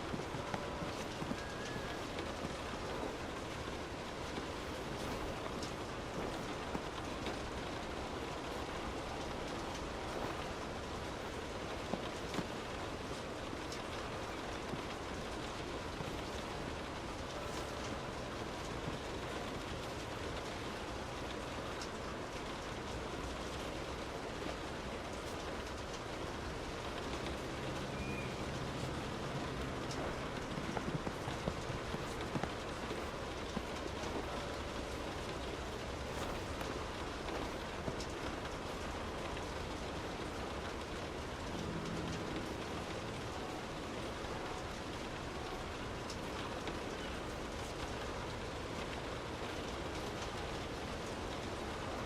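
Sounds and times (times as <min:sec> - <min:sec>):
raindrop ticks: 0:00.0 - 0:52.0
steady rain hiss: 0:00.0 - 0:52.0.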